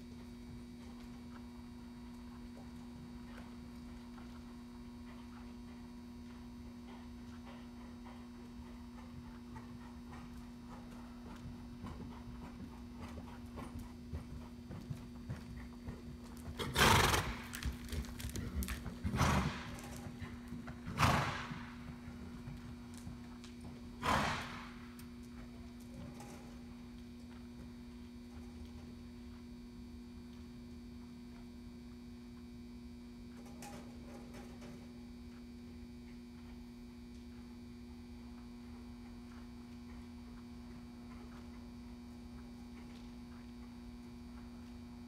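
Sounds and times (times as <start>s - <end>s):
horse hoofbeats on dirt: 0.0s - 32.6s, 33.3s - 45.0s
steady low hum: 0.0s - 45.0s.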